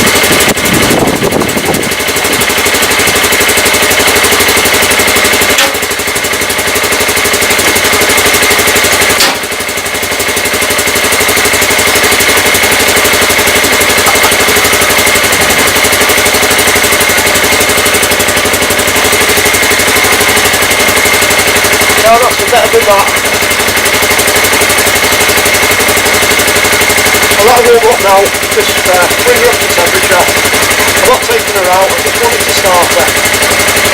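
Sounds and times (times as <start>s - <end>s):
engine idling: 0.0s - 33.9s.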